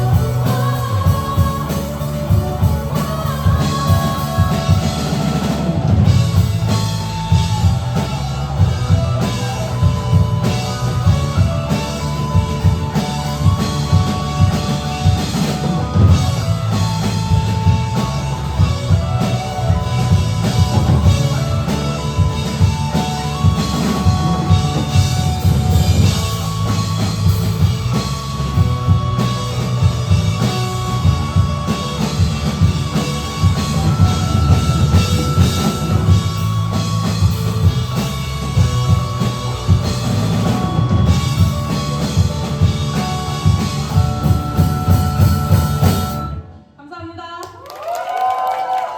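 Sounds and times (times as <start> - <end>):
live rock band playing: 0.0 - 46.8.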